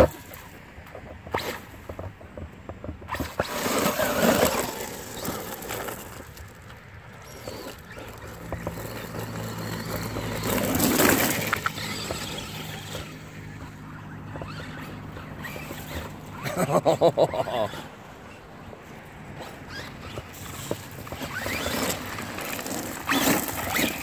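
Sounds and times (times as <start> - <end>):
rc trucks driving through mud: 0.0 - 24.0.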